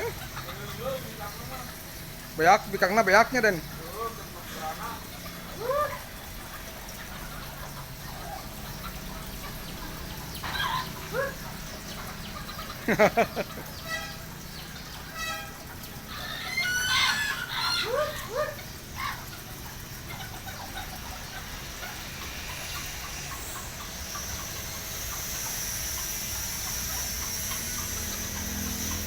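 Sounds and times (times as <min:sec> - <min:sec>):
chickens clucking and calling: 0:00.0 - 0:29.0.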